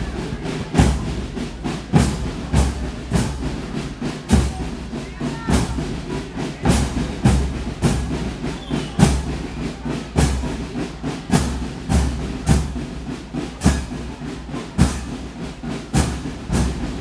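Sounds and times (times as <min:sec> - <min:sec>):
marching drums: 0:00.0 - 0:17.0.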